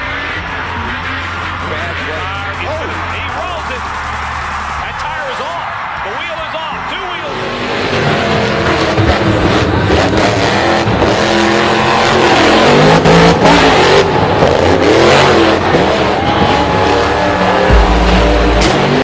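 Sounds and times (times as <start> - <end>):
engines revving hard: 0.0 - 19.0.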